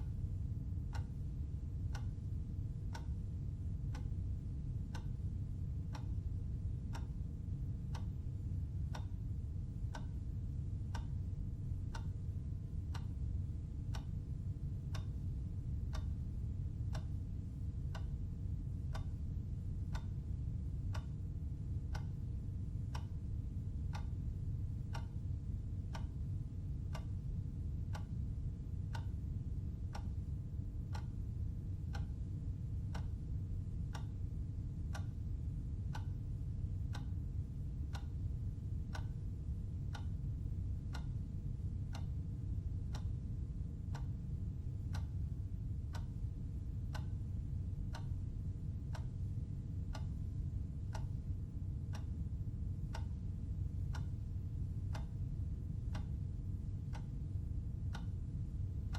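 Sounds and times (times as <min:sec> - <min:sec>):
clock ticking: 0:00.0 - 0:10.2, 0:10.9 - 0:43.2, 0:43.9 - 0:57.2, 0:57.9 - 0:58.9
low steady hum: 0:00.0 - 0:58.9.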